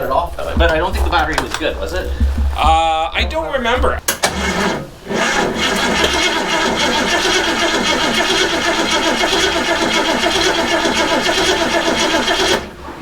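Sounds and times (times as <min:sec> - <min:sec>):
starter motor cranking engine: 0:00.3 - 0:12.8.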